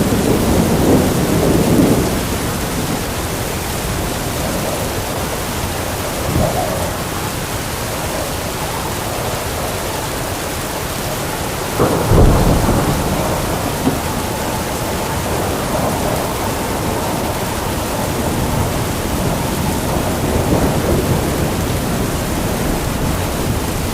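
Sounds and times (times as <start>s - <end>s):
thunder: 0.0s - 7.4s, 11.7s - 23.9s
heavy rain pouring: 0.0s - 23.9s.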